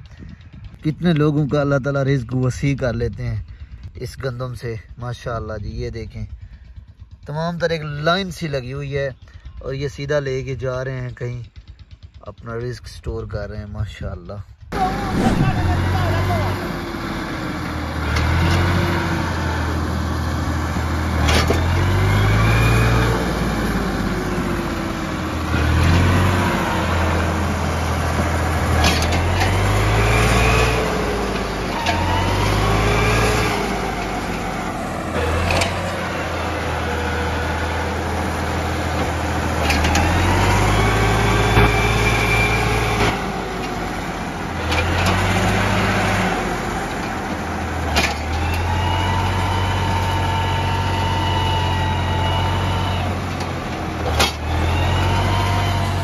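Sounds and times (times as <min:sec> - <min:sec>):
tractor engine under load: 0:00.0 - 0:56.0.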